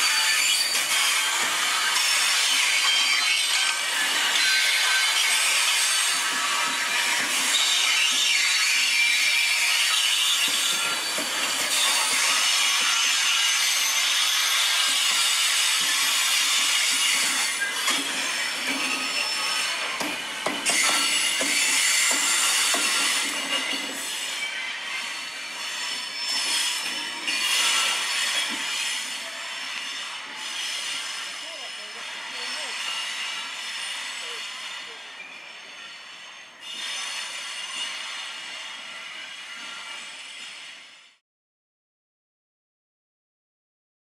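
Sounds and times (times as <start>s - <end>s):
rumbling rail noise: 0.0s - 41.2s
train wheels squealing on rails: 0.0s - 41.2s.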